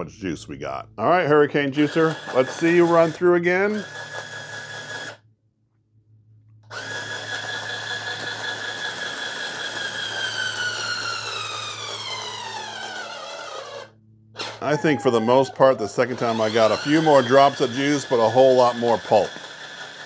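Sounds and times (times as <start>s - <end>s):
juicer motor whining: 1.6s - 5.2s, 6.6s - 20.0s.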